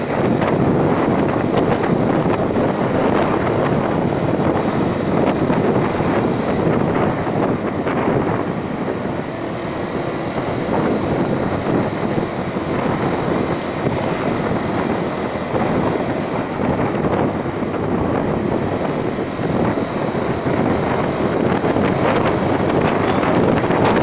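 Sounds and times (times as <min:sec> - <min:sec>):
road and engine noise: 0:00.0 - 0:24.0
wind buffeting microphone: 0:00.0 - 0:24.0.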